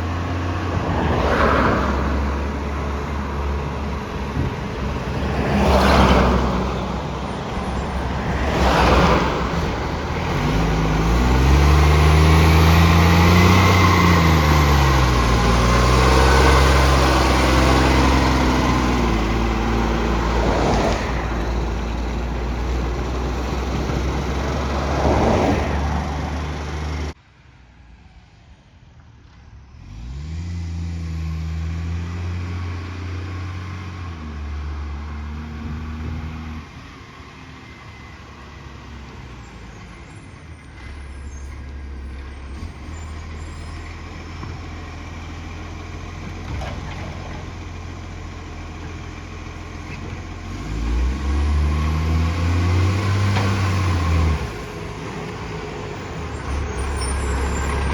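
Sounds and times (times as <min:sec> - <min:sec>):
diesel engine revving: 0:00.0 - 0:27.2, 0:29.7 - 0:57.9.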